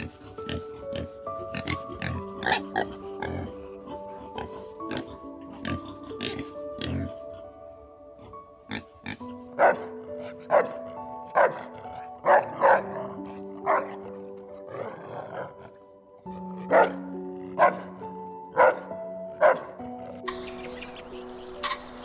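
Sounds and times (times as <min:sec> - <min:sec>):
background music with held notes: 0:00.0 - 0:22.0.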